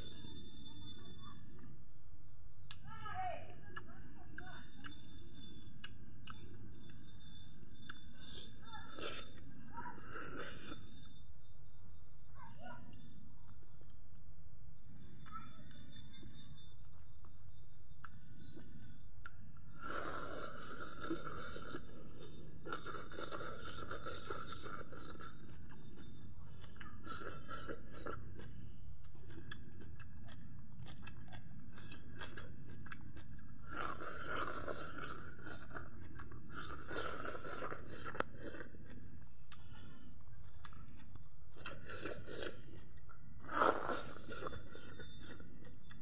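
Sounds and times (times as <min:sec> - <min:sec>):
person chewing and crunching food: 0:03.6 - 0:11.2, 0:15.1 - 0:46.0.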